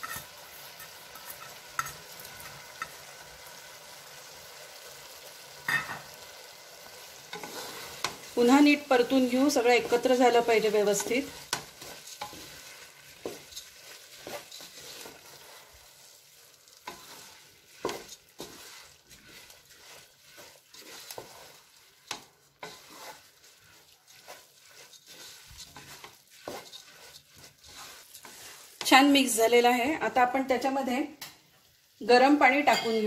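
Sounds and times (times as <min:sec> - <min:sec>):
spatula scraping a pan: 0:00.0 - 0:03.3, 0:05.6 - 0:29.4
faint sizzle: 0:00.0 - 0:33.0.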